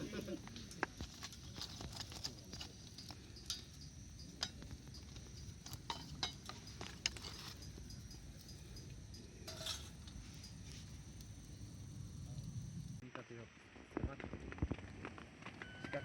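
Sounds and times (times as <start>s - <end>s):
insects chirping: 0.0s - 13.6s
campfire crackling and popping: 0.0s - 16.0s.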